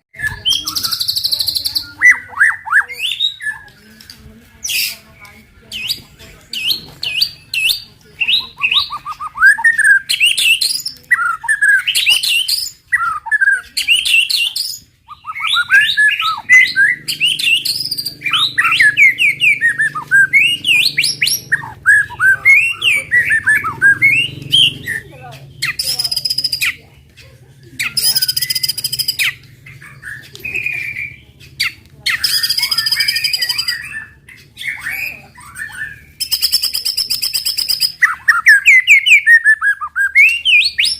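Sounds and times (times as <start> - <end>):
songbird singing whistled phrases: 0.1 - 27.0, 27.6 - 40.9
harsh buzzy bird song bursts: 0.2 - 3.7, 4.3 - 27.0, 27.6 - 40.9.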